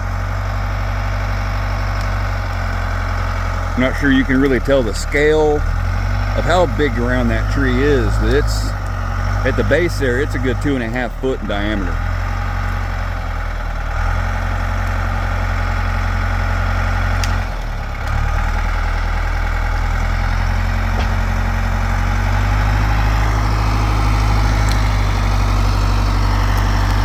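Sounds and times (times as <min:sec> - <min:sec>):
heavy machine engine running: 0:00.0 - 0:27.0.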